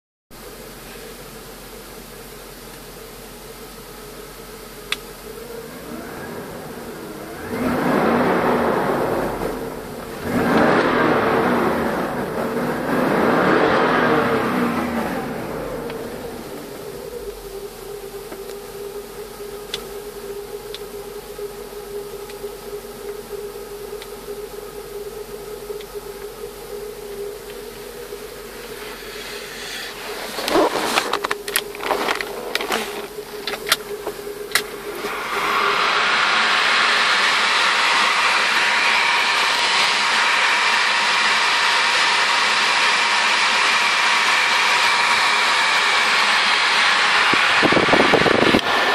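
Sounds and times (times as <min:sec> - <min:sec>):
car engine revving: 0:01.4 - 0:48.9.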